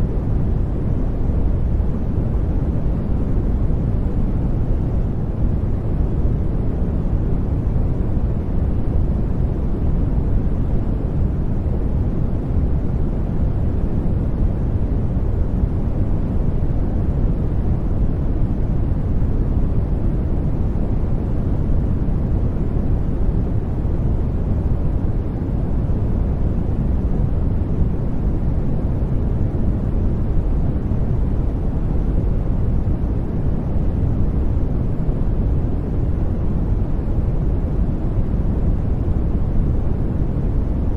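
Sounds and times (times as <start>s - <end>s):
deep rumbling white noise: 0.0s - 40.9s.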